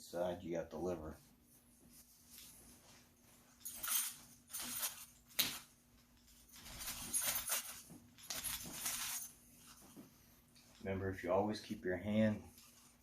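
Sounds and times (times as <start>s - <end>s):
clothing rustling and swishing: 0.8s - 13.0s.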